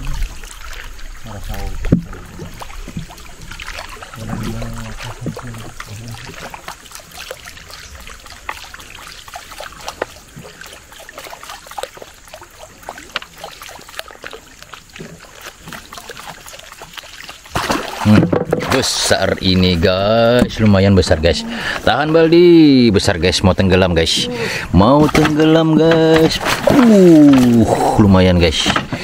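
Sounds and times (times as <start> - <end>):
small clicks and splashes: 0.0 - 22.0, 25.0 - 29.0
water trickling and lapping: 0.0 - 29.0.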